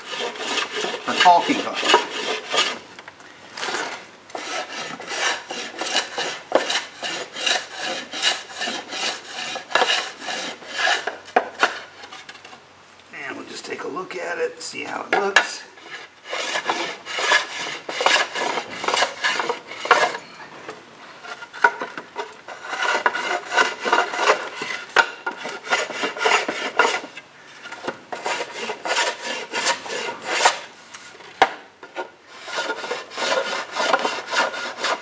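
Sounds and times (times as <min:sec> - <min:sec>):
hand plane shaving wood: 0:00.0 - 0:02.9, 0:04.3 - 0:12.2, 0:15.4 - 0:20.2, 0:21.2 - 0:30.7, 0:31.9 - 0:35.0.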